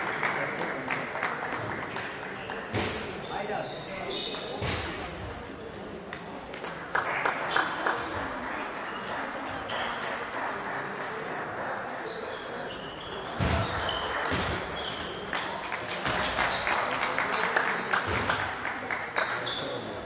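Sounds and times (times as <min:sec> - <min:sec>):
chatter in a large hall: 0:00.0 - 0:20.0.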